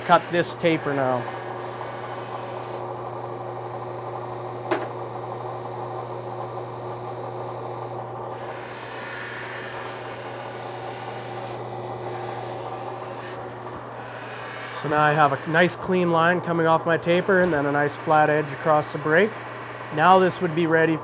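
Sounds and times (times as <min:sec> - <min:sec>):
belt grinder motor hum: 0:00.0 - 0:21.0.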